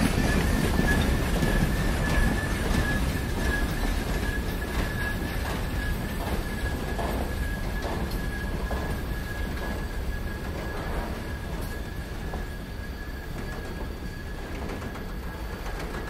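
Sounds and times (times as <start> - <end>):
rumble of train wheels: 0.0 - 16.0
train brakes screeching: 0.0 - 16.0
wheels clacking over rail joints: 0.0 - 16.0.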